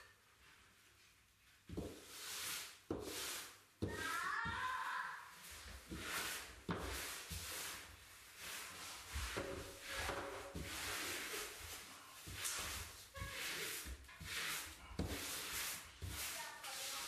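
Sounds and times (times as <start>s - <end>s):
wallpaper rustling: 0.0s - 17.0s
smoothing brush swishing: 0.3s - 17.0s.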